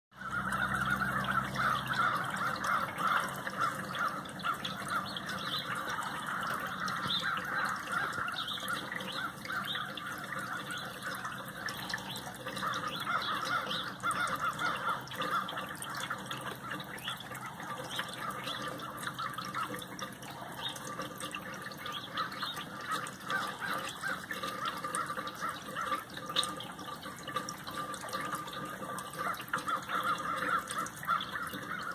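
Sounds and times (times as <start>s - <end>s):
crows cawing: 0.2s - 31.9s.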